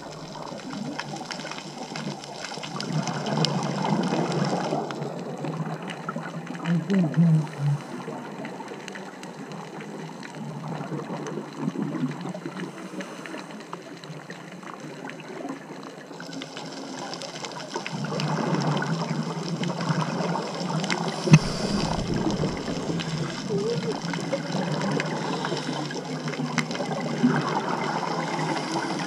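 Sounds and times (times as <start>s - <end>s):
bubbly rush of water: 0.0s - 29.0s.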